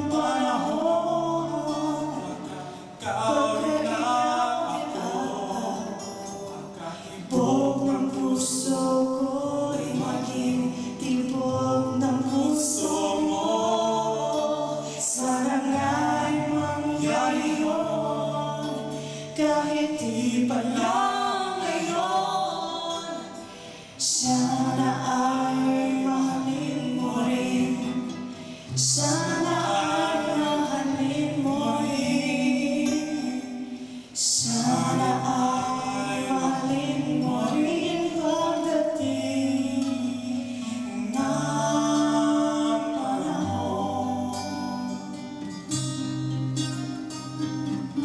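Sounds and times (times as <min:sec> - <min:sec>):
man and woman singing: 0:00.0 - 0:45.6
strummed acoustic guitars: 0:00.0 - 0:48.0.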